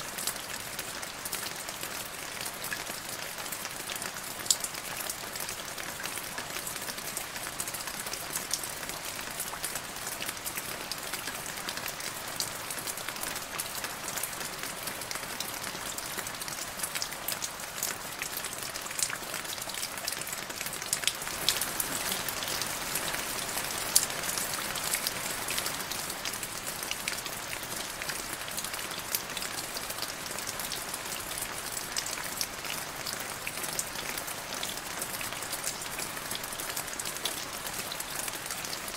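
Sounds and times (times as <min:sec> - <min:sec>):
rain falling into a puddle: 0:00.0 - 0:38.9.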